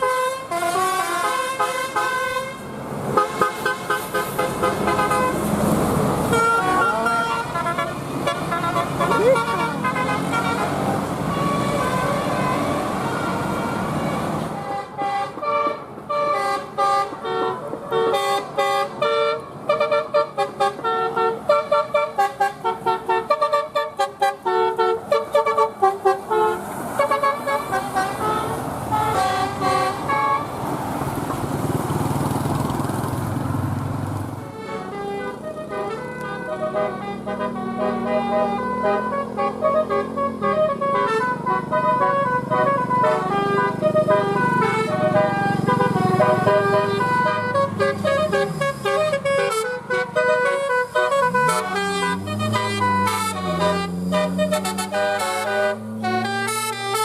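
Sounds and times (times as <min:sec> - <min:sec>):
multi-trumpet air horn tune: 0:00.0 - 0:02.6, 0:03.2 - 0:05.5, 0:06.2 - 0:30.5, 0:34.4 - 0:57.0.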